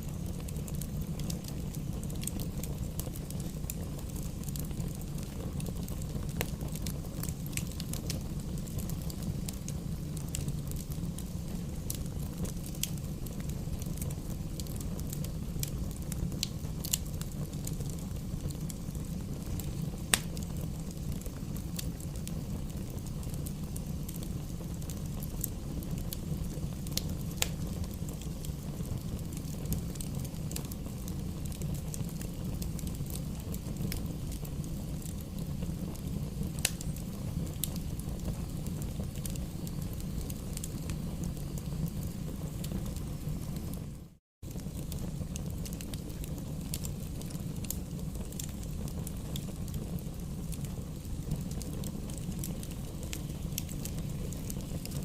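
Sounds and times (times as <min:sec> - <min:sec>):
campfire rumble: 0:00.0 - 0:55.0
crackles and pops of burning wood: 0:00.0 - 0:55.0.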